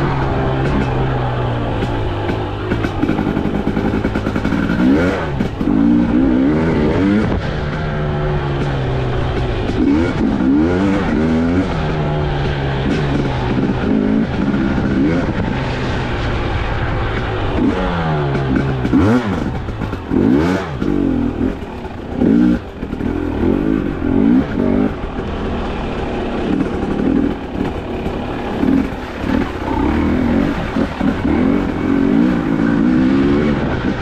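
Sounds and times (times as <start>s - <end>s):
two-stroke motorcycle revving: 0.0s - 34.0s.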